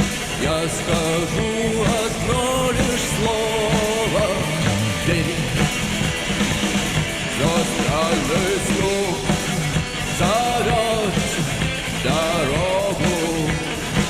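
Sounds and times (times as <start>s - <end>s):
bending melodic lead guitar line: 0.0s - 14.0s
live rock band playing: 0.0s - 14.0s.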